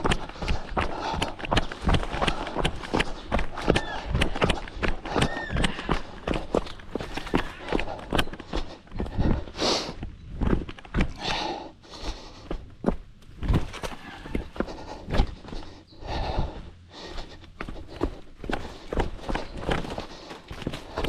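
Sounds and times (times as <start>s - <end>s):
heavy breathing: 0.0s - 10.1s, 10.9s - 21.0s
footsteps on rocky trail: 0.0s - 21.0s.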